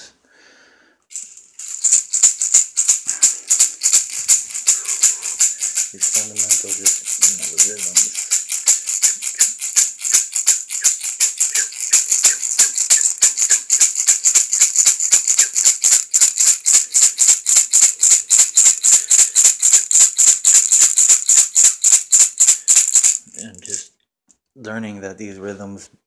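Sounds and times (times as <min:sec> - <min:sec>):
rattle shaken rhythmically: 0:01.1 - 0:23.9.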